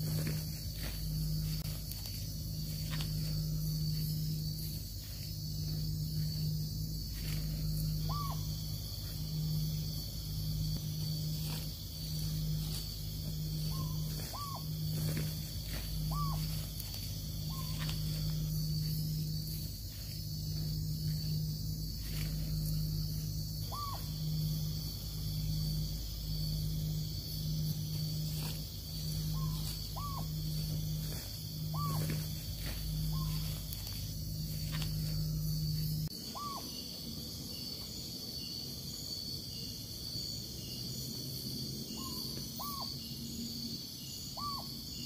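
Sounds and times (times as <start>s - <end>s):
pulsing low hum: 0.0s - 36.1s
insect chorus high buzz: 0.0s - 45.0s.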